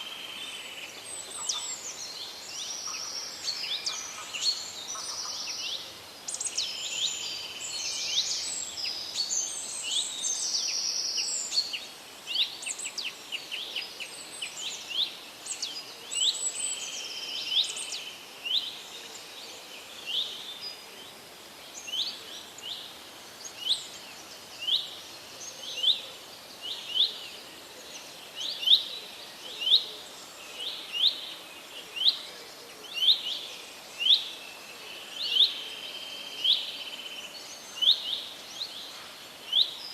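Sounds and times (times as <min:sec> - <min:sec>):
faint outdoor background noise: 0:00.0 - 0:39.9
songbirds singing: 0:00.0 - 0:39.9.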